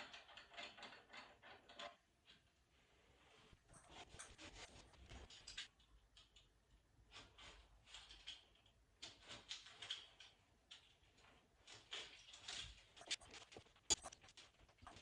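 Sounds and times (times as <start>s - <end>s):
faint rustling and scraping: 0.0s - 15.0s.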